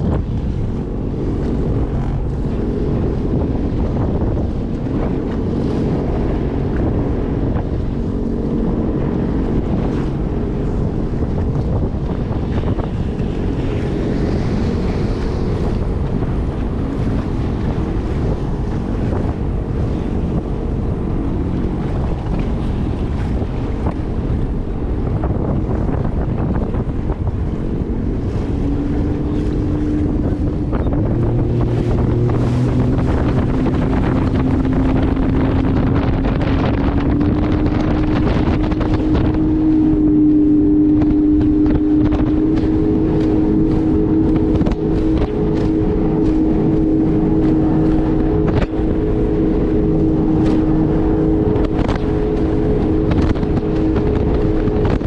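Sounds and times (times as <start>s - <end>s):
jet ski engines running: 0.0s - 55.0s
water rushing: 0.0s - 55.0s
wind buffeting microphone: 0.0s - 55.0s.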